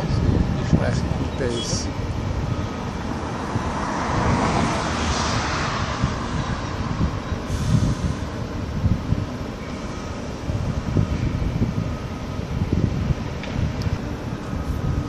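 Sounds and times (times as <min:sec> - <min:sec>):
rumble of machinery and vehicles: 0:00.0 - 0:15.0
wind buffeting microphone: 0:00.0 - 0:15.0.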